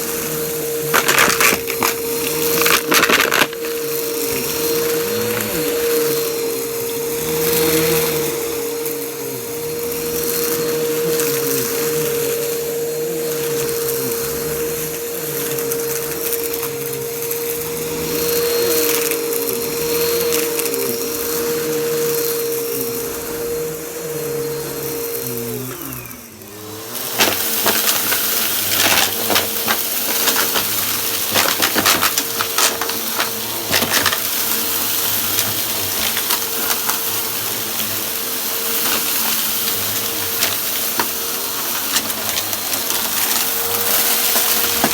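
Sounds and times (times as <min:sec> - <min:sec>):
debris crackling in vacuum: 0:00.0 - 0:44.9
vacuum cleaner motor whine: 0:00.0 - 0:44.9.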